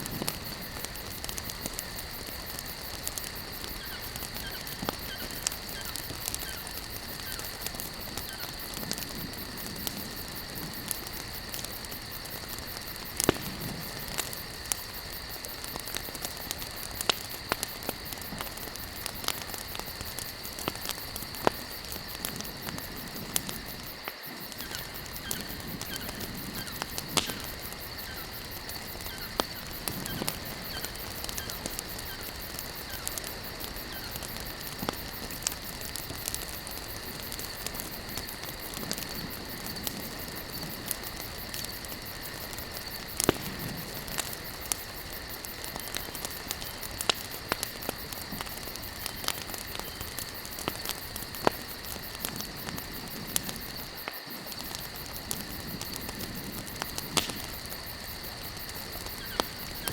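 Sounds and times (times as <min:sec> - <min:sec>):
campfire crackling: 0:00.0 - 0:59.9
fire hiss: 0:00.0 - 0:59.9
sharp pops of fire: 0:00.0 - 0:59.9.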